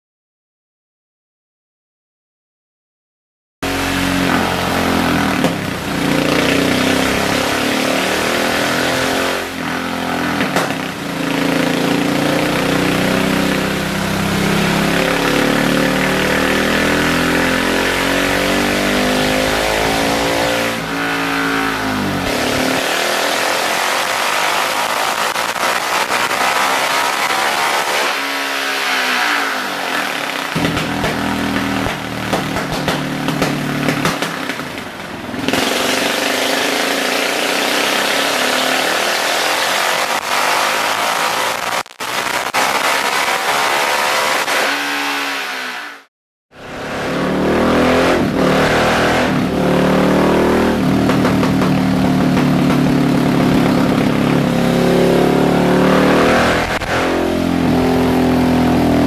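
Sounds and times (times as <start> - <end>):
motorcycle engine revving: 3.6 - 59.0.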